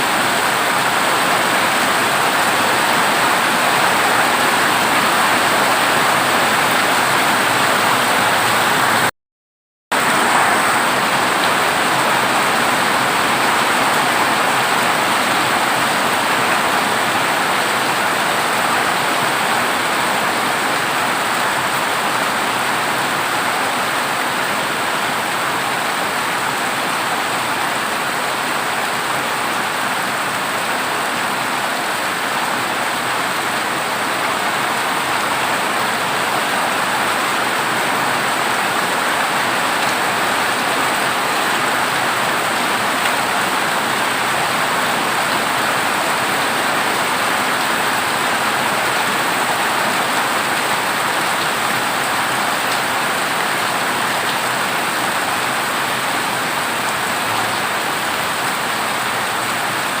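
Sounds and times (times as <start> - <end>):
heavy rain on a metal roof: 0.0 - 9.1, 9.9 - 60.0.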